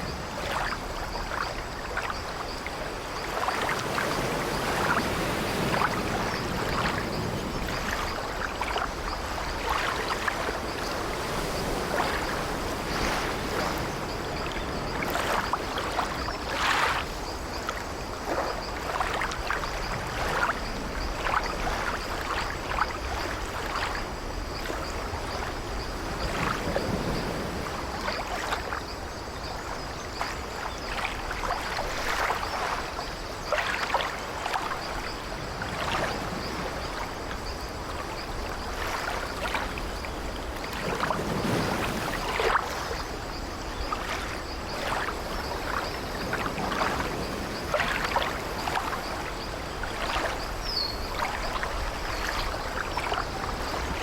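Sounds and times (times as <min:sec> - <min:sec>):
water sloshing against wooden hull: 0:00.0 - 0:25.6, 0:29.6 - 0:54.0.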